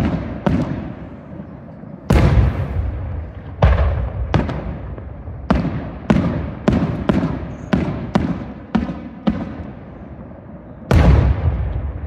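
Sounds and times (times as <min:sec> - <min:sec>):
low rumbling echo: 0:00.0 - 0:12.0.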